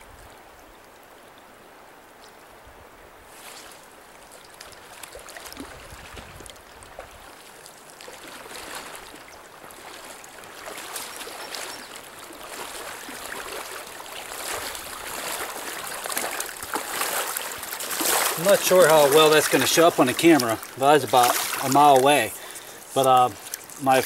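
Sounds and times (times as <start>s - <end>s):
river water rushing: 0.0s - 24.0s
legs wading through water: 3.3s - 24.0s.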